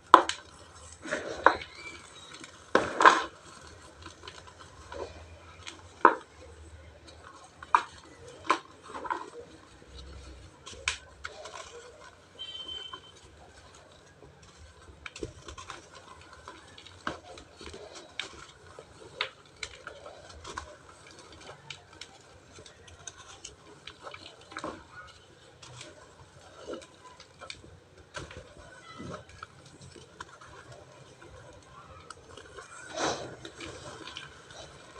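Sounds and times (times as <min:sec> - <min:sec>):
cement chunks crumbling: 0:00.0 - 0:34.9.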